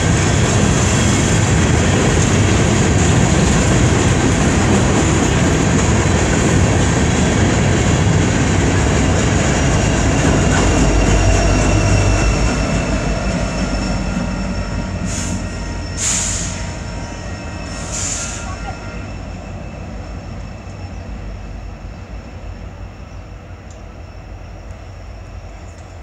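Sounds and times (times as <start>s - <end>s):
train cars rumbling on rails: 0.0s - 26.0s.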